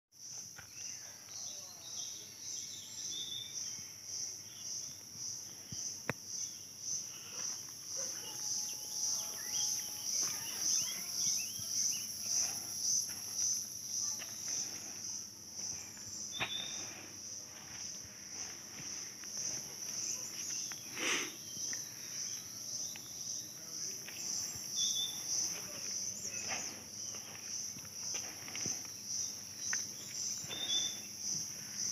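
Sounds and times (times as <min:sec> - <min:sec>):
forest insects shrilling: 0:03.4 - 0:31.9.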